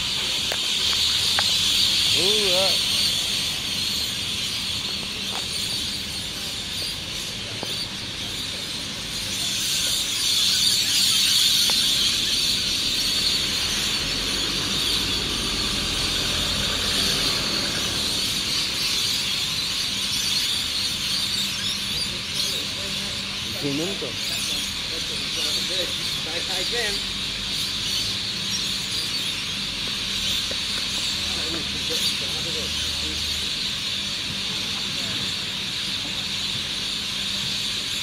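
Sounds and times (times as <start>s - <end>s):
flock of birds calling: 0.0s - 38.0s.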